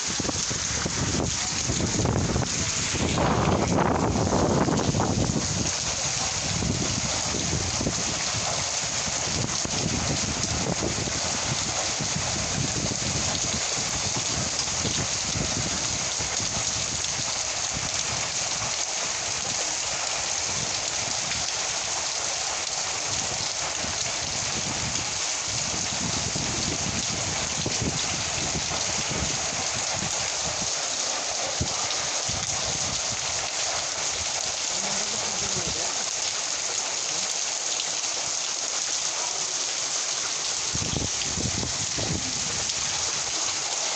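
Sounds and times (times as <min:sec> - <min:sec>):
heavy rain hissing on surfaces: 0:00.0 - 0:43.9.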